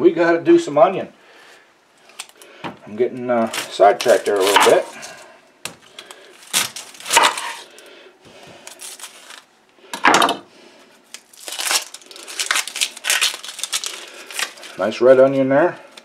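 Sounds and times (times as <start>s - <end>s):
onion skin crackling: 2.0s - 9.9s, 10.8s - 16.0s.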